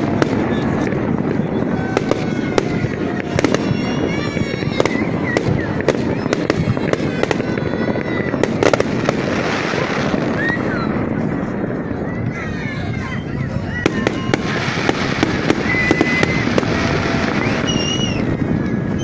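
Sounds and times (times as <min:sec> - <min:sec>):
fireworks bangs and crackles: 0:00.0 - 0:19.0
rumble of fireworks explosions: 0:00.0 - 0:19.0.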